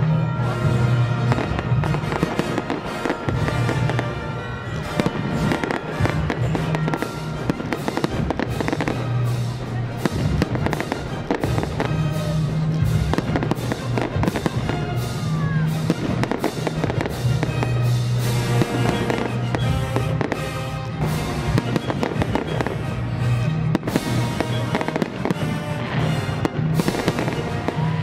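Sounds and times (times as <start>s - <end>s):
fireworks bursting and crackling: 0.0s - 28.0s
music playing: 0.0s - 28.0s.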